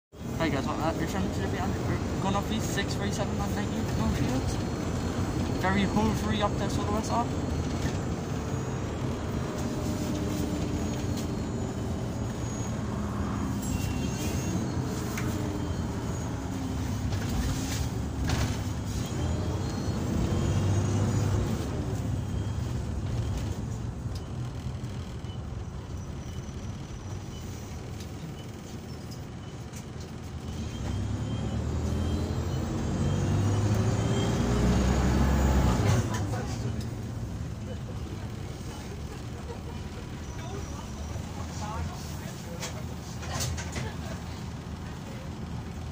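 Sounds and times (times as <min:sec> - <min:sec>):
bus engine revving: 0:00.2 - 0:45.9.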